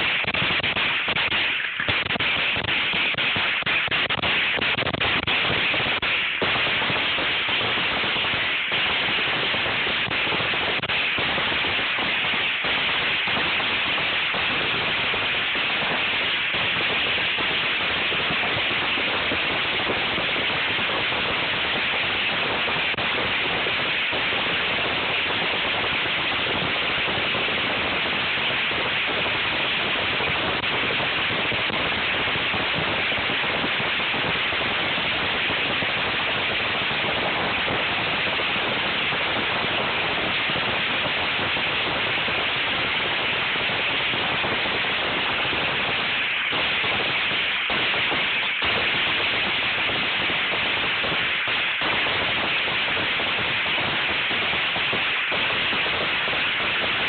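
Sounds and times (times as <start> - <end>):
fireworks crackling and hissing: 0.0 - 57.0.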